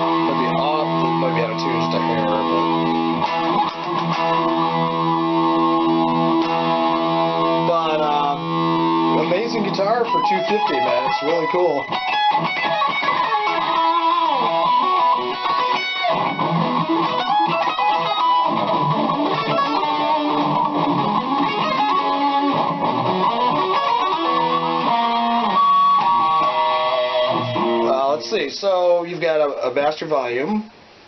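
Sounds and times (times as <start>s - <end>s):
distorted electric guitar riffs: 0.0s - 30.8s.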